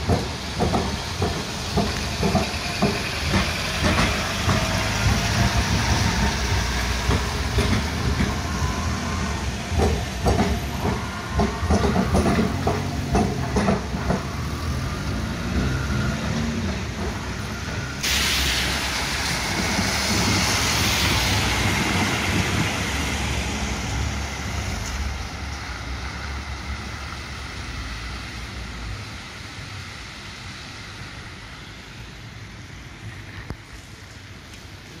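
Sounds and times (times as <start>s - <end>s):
tram rumbling: 0.0s - 35.0s
tyres hissing on wet road: 0.0s - 35.0s.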